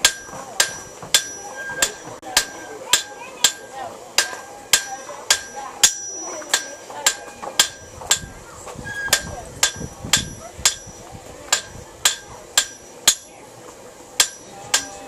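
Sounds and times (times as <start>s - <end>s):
hammer striking iron on anvil: 0.0s - 13.4s, 14.2s - 15.0s.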